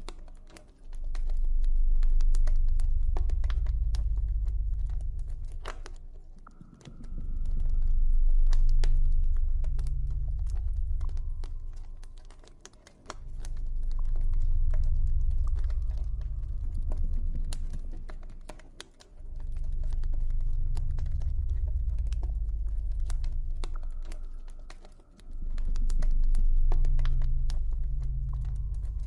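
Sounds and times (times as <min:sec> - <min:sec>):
deep low drone: 0:00.0 - 0:29.0.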